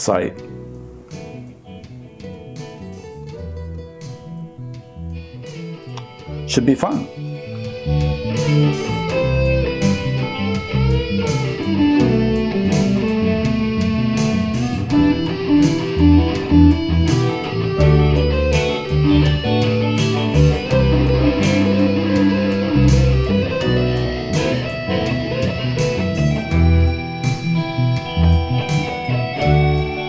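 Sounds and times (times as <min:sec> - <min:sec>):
background music with electric guitar: 0:00.0 - 0:30.0.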